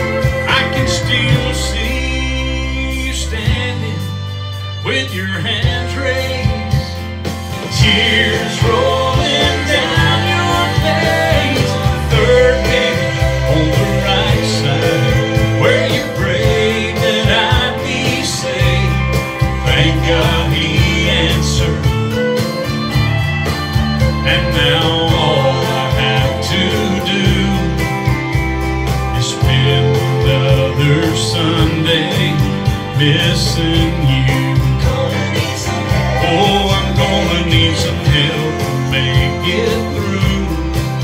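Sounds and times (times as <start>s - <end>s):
man singing: 0.0s - 22.2s, 24.1s - 28.3s, 29.0s - 41.0s
deep bass notes: 0.0s - 41.0s
strummed acoustic guitar: 0.0s - 41.0s.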